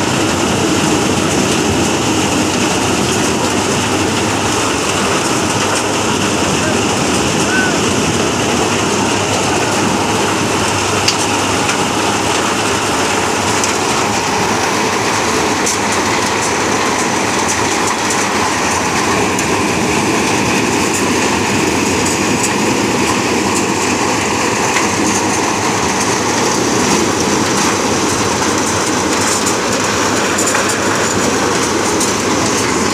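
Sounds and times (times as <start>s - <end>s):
maize thresher running: 0.0s - 32.9s.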